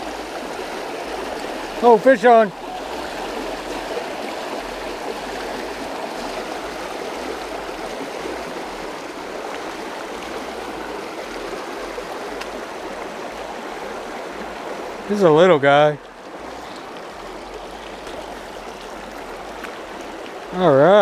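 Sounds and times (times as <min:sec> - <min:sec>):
creek water running over rocks: 0:00.0 - 0:21.0.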